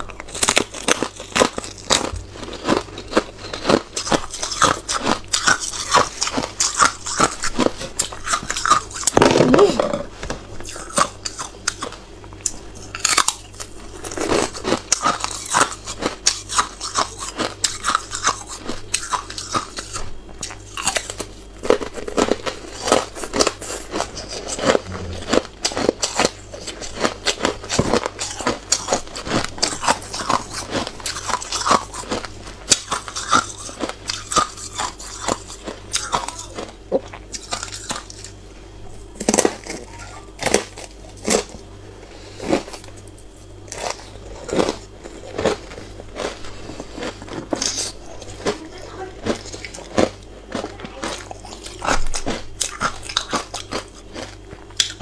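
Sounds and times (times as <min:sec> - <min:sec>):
chewing: 0:00.0 - 0:38.4, 0:42.3 - 0:55.0.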